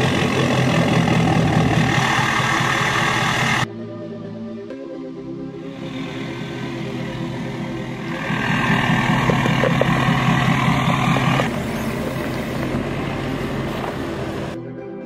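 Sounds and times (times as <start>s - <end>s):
vehicle engine running: 0.0s - 3.7s, 5.6s - 14.6s.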